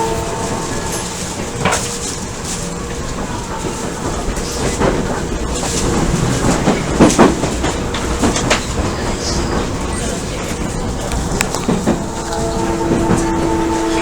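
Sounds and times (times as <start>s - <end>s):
electric train running noise: 0.0s - 14.0s
wheels knocking over rail joints: 0.0s - 14.0s.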